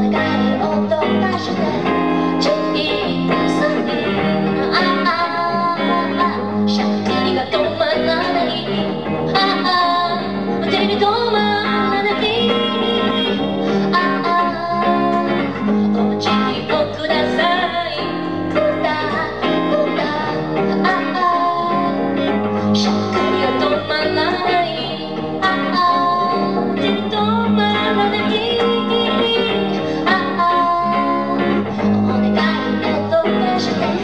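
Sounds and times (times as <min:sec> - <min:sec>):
person singing: 0:00.0 - 0:34.0
pop song with guitar: 0:00.0 - 0:34.0.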